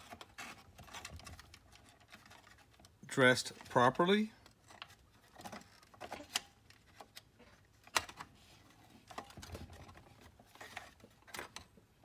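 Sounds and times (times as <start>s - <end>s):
plastic and metal parts clicking: 0.0s - 11.8s.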